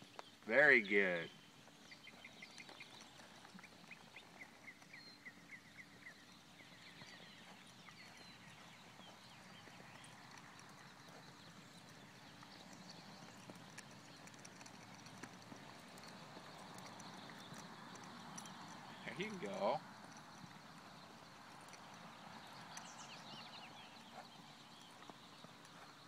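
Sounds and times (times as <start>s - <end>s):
faint horse hoofbeats: 0.0s - 26.0s.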